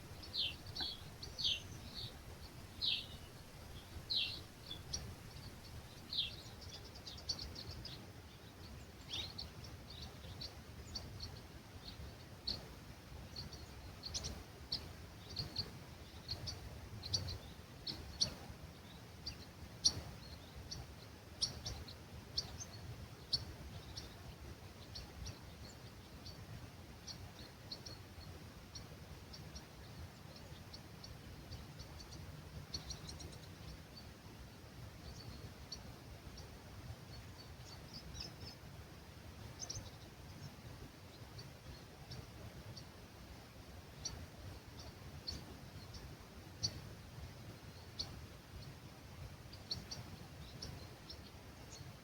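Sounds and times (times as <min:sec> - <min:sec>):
low rumble of breeze: 0:00.0 - 0:52.0
small birds chirping: 0:00.0 - 0:52.0.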